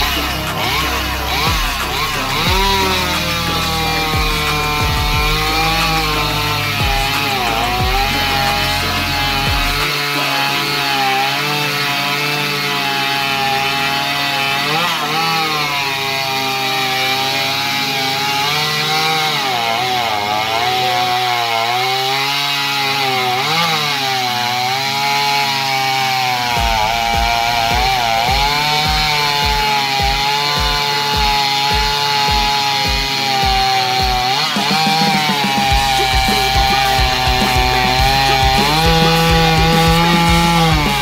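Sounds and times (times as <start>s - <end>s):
chainsaw cutting through log: 0.0s - 41.0s.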